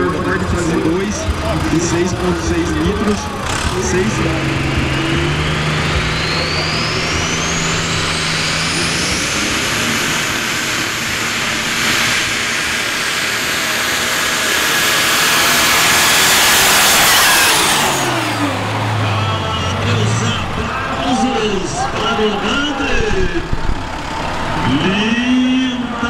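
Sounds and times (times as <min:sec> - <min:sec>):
high whine climbing in pitch: 0:00.0 - 0:26.0
tractor engine running hard: 0:00.0 - 0:26.0.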